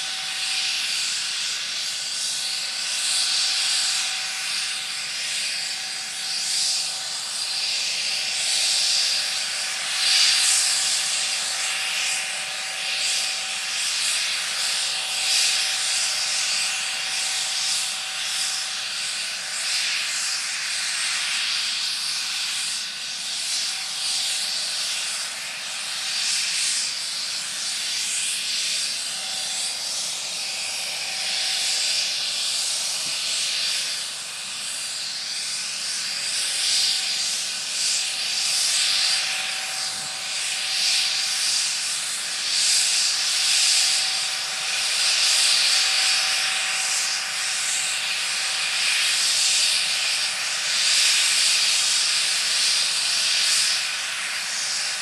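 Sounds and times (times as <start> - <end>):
helicopter turbine hiss and whine: 0.0 - 55.0.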